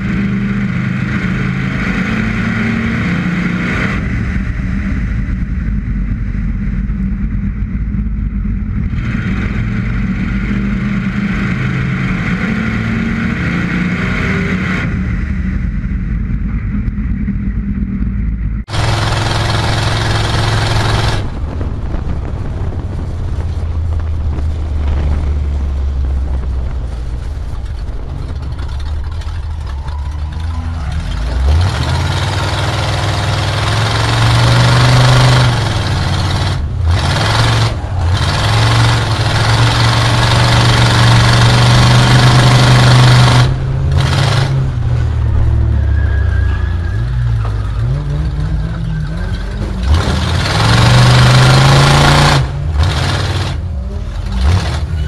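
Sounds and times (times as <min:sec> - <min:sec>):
loud rush: 0:00.0 - 0:48.4
car engine running hard: 0:00.0 - 0:55.0.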